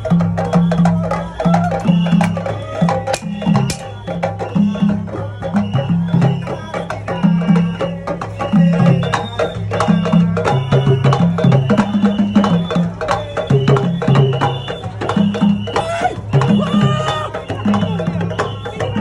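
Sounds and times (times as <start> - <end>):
music with busy drums: 0.0 - 19.0.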